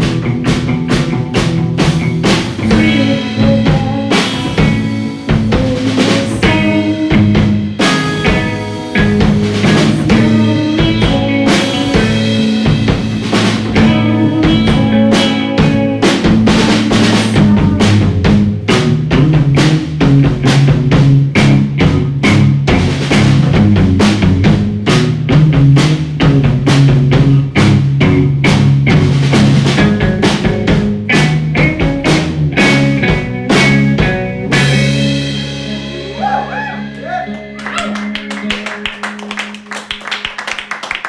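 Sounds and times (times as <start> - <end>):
drums hitting steadily: 0.0 - 41.0
live rock band playing: 0.0 - 41.0
held guitar and bass chord: 2.6 - 39.4.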